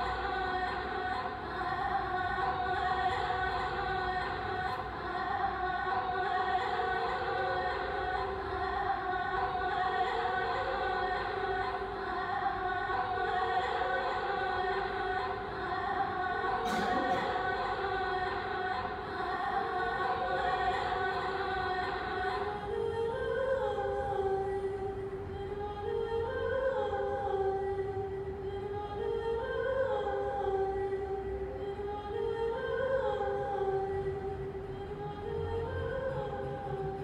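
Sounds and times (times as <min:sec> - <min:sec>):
woman singing operatic notes: 0:00.0 - 0:37.0.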